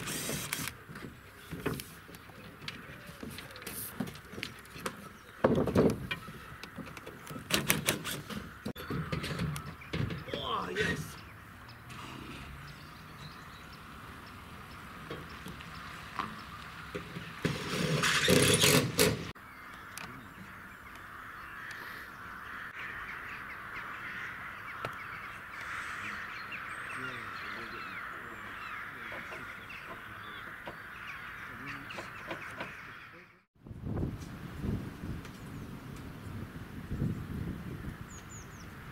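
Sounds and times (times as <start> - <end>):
many birds calling: 0.0 - 33.5, 37.3 - 38.9.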